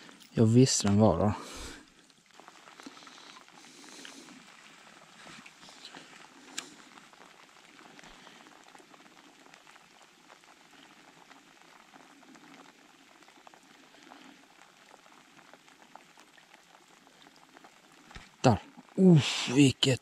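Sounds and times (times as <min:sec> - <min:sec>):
faint running creek water: 0:00.0 - 0:20.0.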